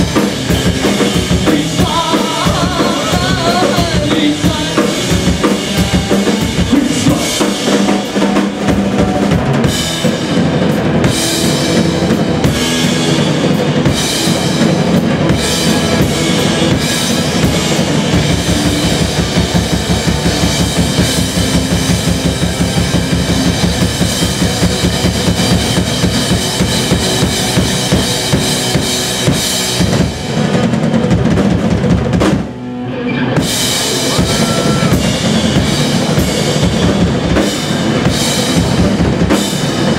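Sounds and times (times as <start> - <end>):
distorted electric guitars: 0.0 - 39.9
drum kit: 0.0 - 39.9
live rock band playing: 0.0 - 39.9.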